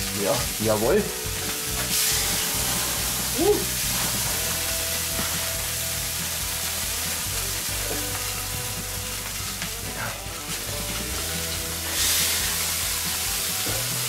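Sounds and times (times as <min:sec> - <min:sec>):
burger patties sizzling on grill: 0:00.0 - 0:14.0.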